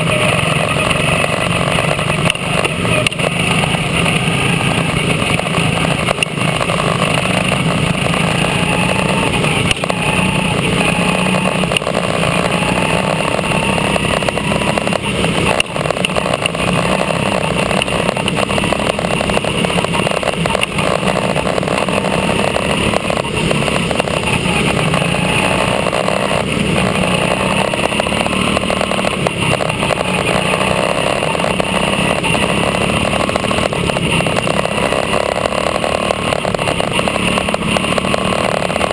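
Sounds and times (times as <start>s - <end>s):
small race car engine running hard: 0.0s - 38.9s.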